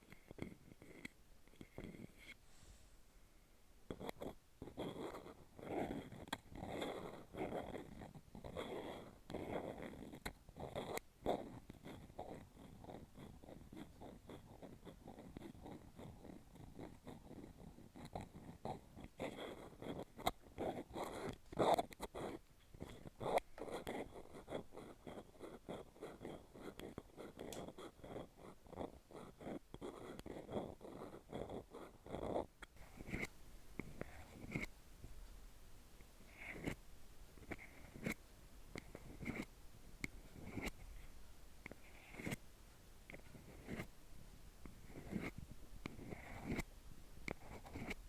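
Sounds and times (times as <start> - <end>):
scratching and clicking on capsule: 0.0 - 2.4, 3.9 - 35.4, 36.0 - 42.4, 43.0 - 44.0, 44.6 - 48.0.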